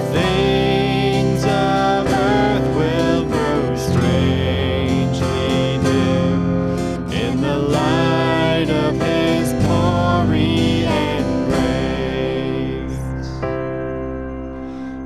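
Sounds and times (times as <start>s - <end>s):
strummed acoustic guitar: 0.0s - 13.4s
worship band music: 0.0s - 13.8s.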